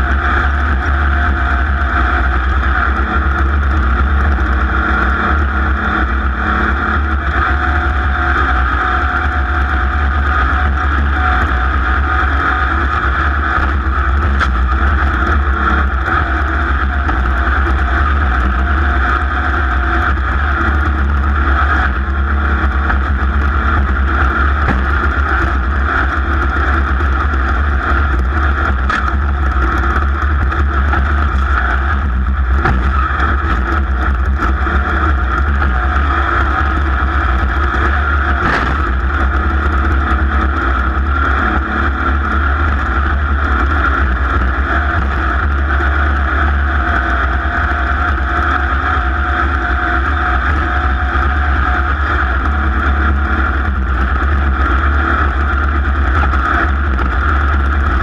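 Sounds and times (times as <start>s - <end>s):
racing engine at high revs: 0.0s - 58.0s.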